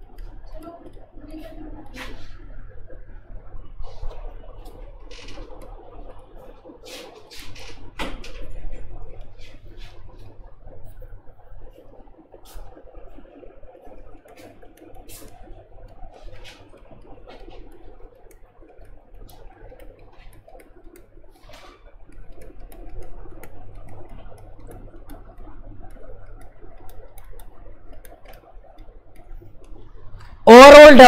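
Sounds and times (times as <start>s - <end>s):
faint clicks and taps: 0.0s - 2.6s, 3.8s - 30.4s
electrical hum: 0.0s - 31.0s.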